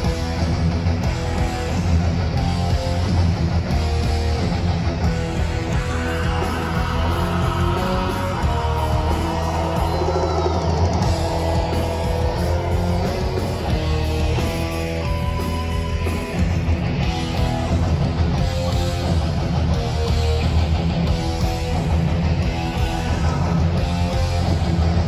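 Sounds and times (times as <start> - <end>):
thrash metal band playing: 0.0 - 25.0.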